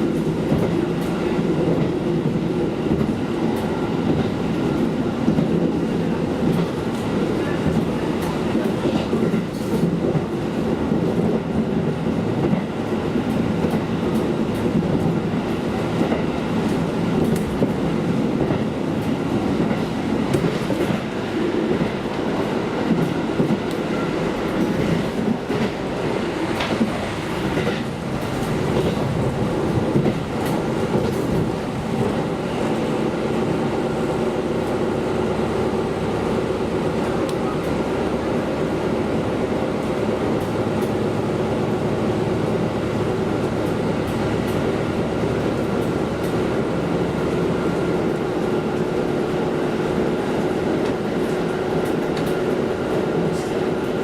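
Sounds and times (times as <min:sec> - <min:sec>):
railcar engine drone: 0:00.0 - 0:54.0.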